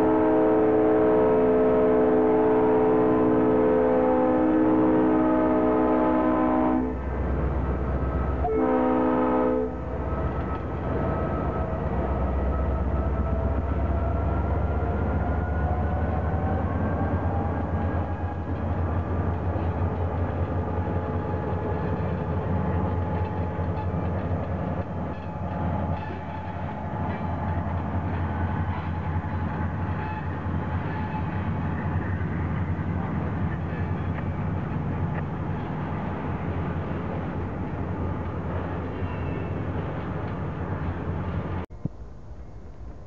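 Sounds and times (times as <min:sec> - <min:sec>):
diesel locomotive engine drone: 0:00.0 - 0:43.0
train wheels on rails: 0:04.0 - 0:43.0.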